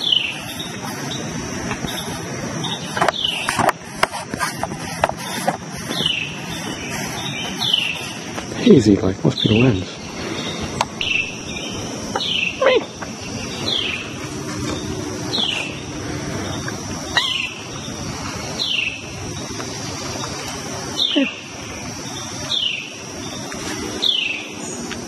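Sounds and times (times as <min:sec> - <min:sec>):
birds calling: 0:00.0 - 0:25.0
steady high hiss: 0:00.0 - 0:25.0.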